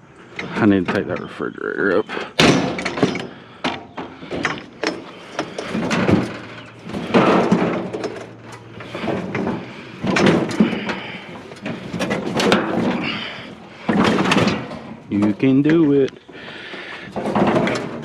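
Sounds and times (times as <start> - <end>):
metal clanking and scraping: 0.2 - 18.0
loud metal clatters: 2.3 - 16.0, 16.7 - 18.0.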